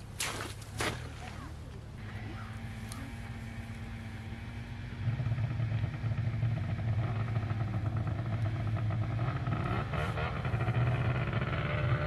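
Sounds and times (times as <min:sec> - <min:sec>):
snowmobile engine running: 0:02.0 - 0:12.0.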